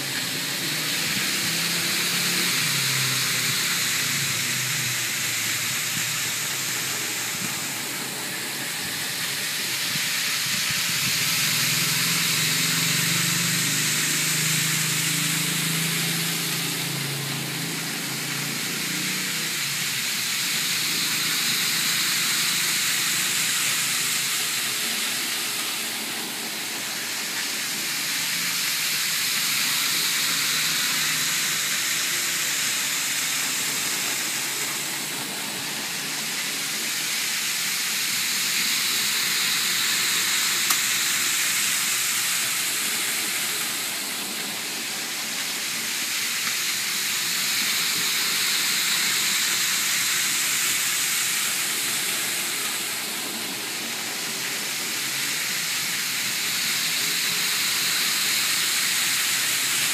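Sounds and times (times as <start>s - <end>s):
model train motors whirring on rails: 0.0s - 59.9s.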